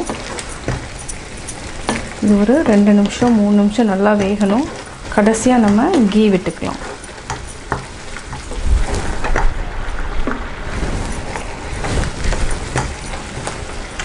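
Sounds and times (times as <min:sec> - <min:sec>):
wooden spatula scraping and tapping: 0:00.0 - 0:09.5, 0:10.3 - 0:14.0
mixture bubbling and sizzling in pan: 0:00.0 - 0:14.0.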